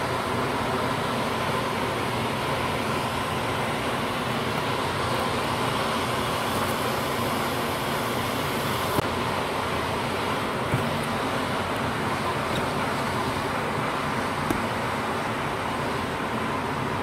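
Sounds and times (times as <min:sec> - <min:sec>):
hot-air blowers humming: 0:00.0 - 0:17.0
roller conveyor turning: 0:00.0 - 0:17.0.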